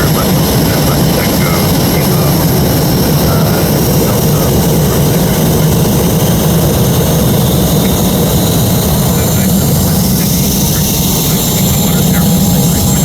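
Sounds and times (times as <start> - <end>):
jet engine cabin hum: 0.0 - 13.0
radio voice: 0.0 - 13.0.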